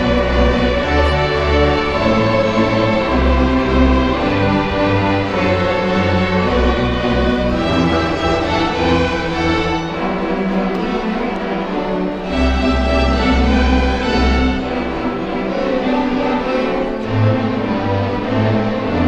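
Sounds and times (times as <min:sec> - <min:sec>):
cellos and basses: 0:00.0 - 0:19.0
violins: 0:00.0 - 0:19.0.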